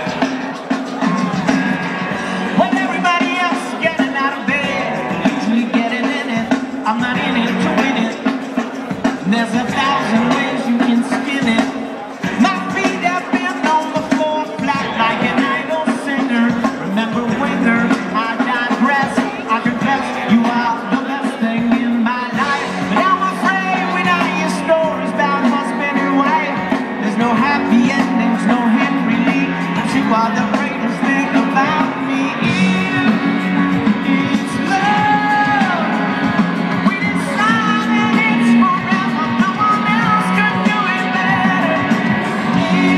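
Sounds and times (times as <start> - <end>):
crowd yelling: 0.0 - 42.9
live rock band playing: 0.0 - 42.9
person singing: 0.0 - 42.9.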